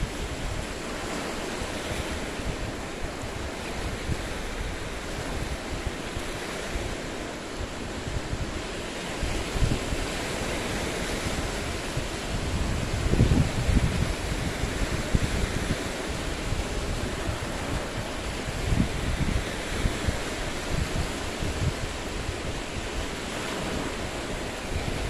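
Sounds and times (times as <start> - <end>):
waves breaking on boulders: 0.0 - 25.0
wind buffeting microphone: 0.0 - 25.0.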